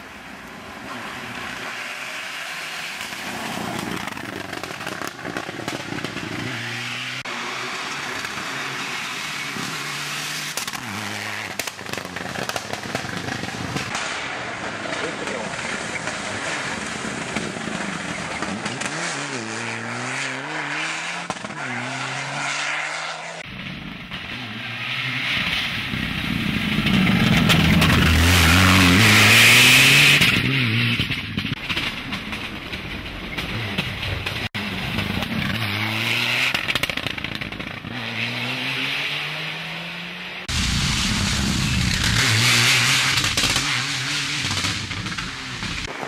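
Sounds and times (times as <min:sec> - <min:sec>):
tyre and exhaust rush: 0:00.0 - 0:46.0
rally car engine accelerating: 0:03.0 - 0:46.0.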